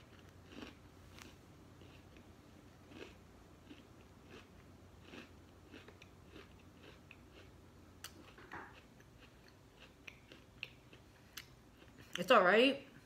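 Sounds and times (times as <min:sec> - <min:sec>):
person chewing crunchy cookie: 0:00.0 - 0:12.2.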